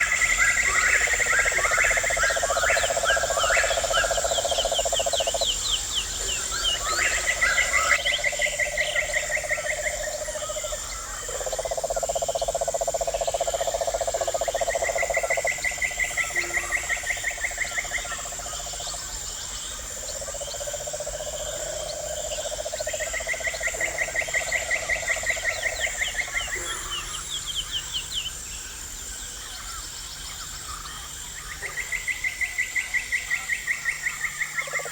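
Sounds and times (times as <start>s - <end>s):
frogs calling in pulsed trills: 0.0s - 34.9s
high insect drone: 0.0s - 34.9s.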